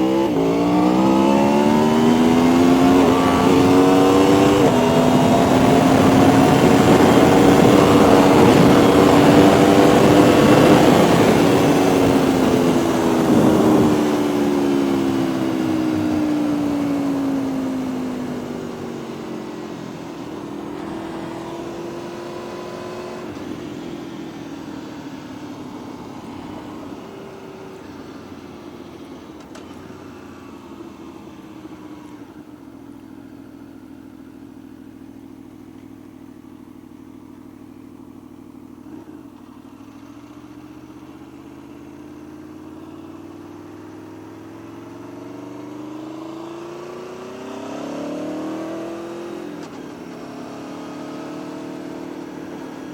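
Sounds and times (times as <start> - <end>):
vehicle engine running: 0.0 - 47.2.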